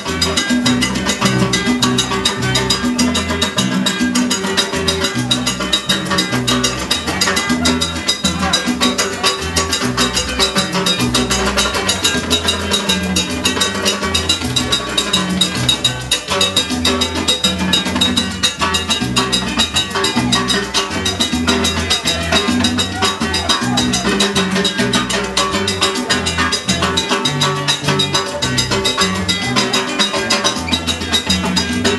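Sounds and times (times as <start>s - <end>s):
salsa music: 0.0s - 31.9s.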